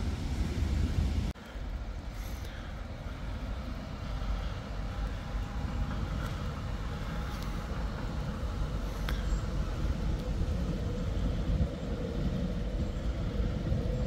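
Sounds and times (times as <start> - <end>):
tram rumbling along track: 0.0 - 14.0.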